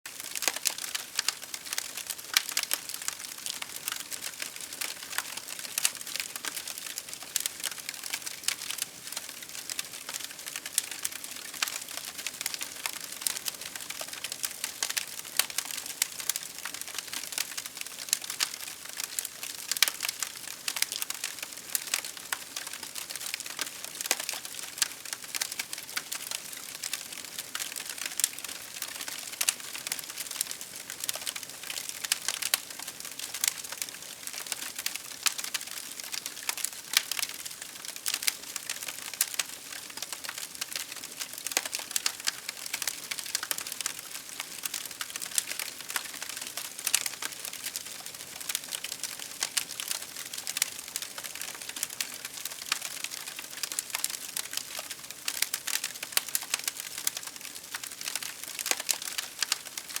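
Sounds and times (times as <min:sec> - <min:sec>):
wood fire crackling: 0:00.1 - 1:00.0.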